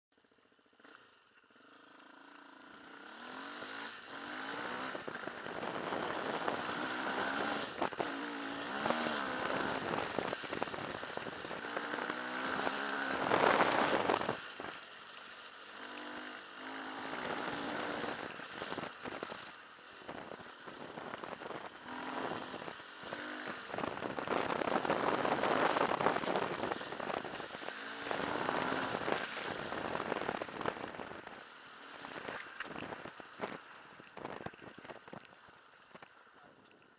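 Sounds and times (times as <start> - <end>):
motorcycle engine revving: 0.6 - 35.2
rush of wind and tyres: 1.6 - 36.2.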